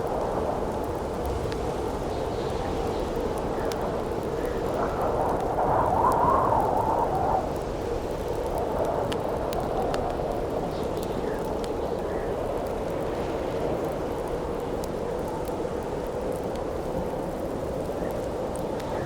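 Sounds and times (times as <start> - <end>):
campfire crackling and popping: 0.0 - 19.0
howling wind: 0.0 - 19.0.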